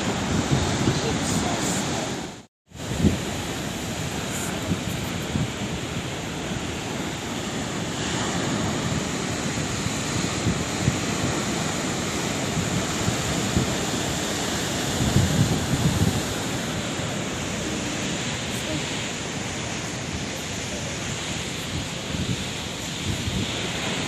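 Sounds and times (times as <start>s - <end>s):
sea waves breaking: 0.0s - 24.0s
wind buffeting microphone: 0.0s - 24.0s.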